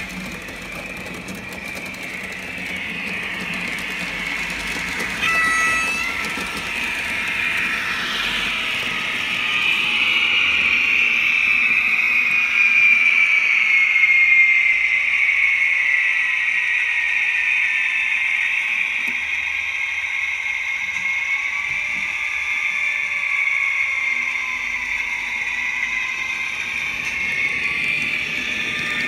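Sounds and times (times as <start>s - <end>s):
model locomotive engine and motor whine: 0.0s - 29.0s.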